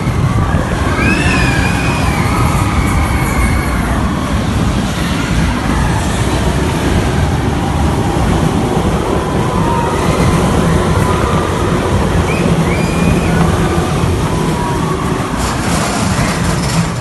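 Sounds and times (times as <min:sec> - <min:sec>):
high wavering squeal: 0:00.0 - 0:08.2, 0:09.4 - 0:16.8
roller coaster rumbling on track: 0:00.0 - 0:17.0.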